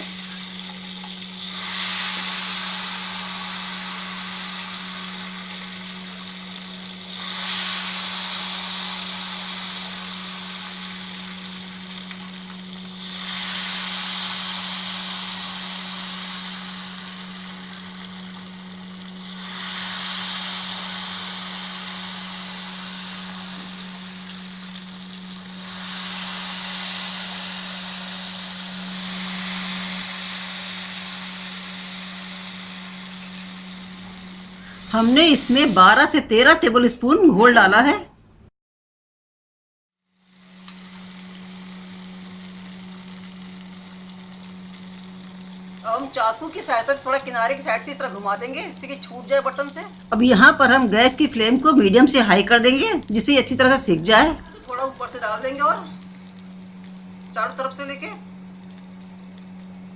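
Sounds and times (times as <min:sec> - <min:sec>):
batter sizzling in hot fat: 0:00.0 - 0:37.0, 0:40.1 - 0:59.9.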